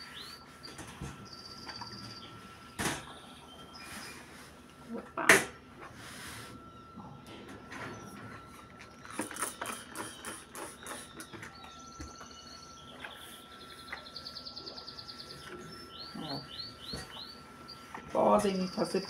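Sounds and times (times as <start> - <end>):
small birds chirping: 0.0 - 4.4, 7.7 - 19.0
faint steady high tone: 0.0 - 5.3, 6.2 - 19.0.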